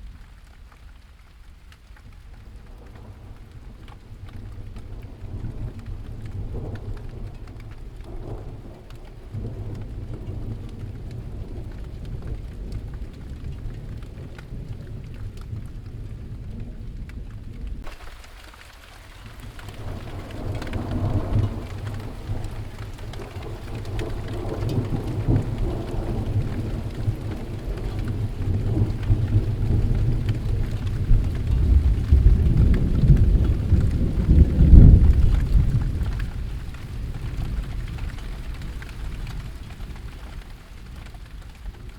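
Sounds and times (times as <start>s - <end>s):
rain falling: 0.0s - 41.9s
rolling thunder: 2.4s - 18.2s, 19.1s - 41.9s.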